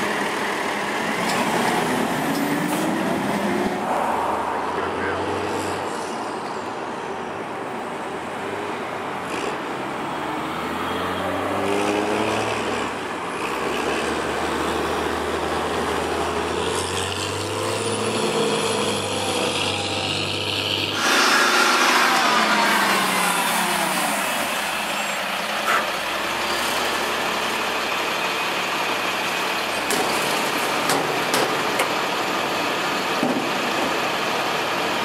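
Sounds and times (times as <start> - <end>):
truck diesel engine accelerating: 0.0 - 6.8, 9.1 - 35.0
loud truck sound: 0.0 - 35.0.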